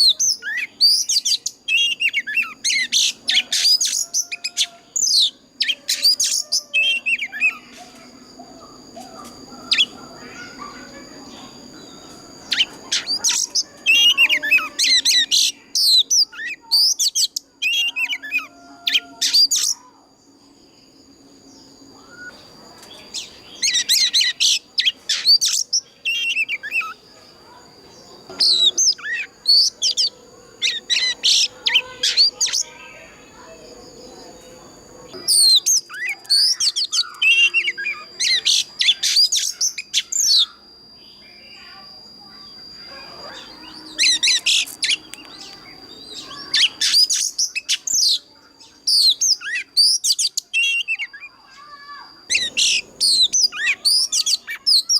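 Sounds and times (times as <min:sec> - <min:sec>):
bird singing whistled phrases: 0:00.0 - 0:20.0, 0:21.4 - 0:27.6, 0:28.3 - 0:34.5, 0:35.1 - 0:54.9
faint high whine: 0:00.0 - 0:54.9.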